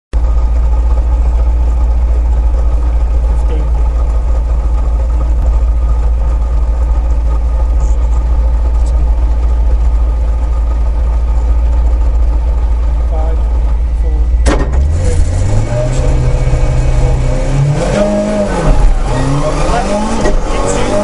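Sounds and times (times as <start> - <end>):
car engine idling: 0.1 - 21.0.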